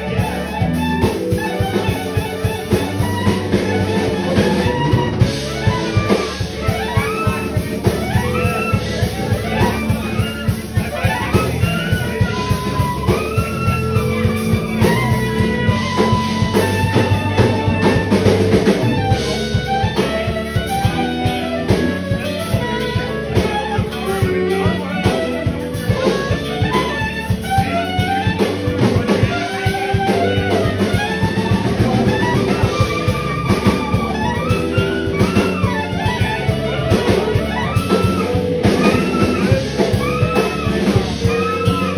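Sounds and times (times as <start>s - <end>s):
drum kit steady beat: 0.0s - 41.9s
electric guitar: 0.0s - 41.9s
jazz band playing: 0.0s - 41.9s
saxophone melody: 0.0s - 41.9s.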